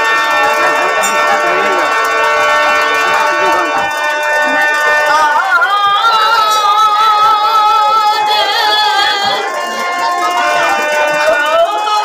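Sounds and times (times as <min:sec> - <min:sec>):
harmonium drone: 0:00.0 - 0:12.0.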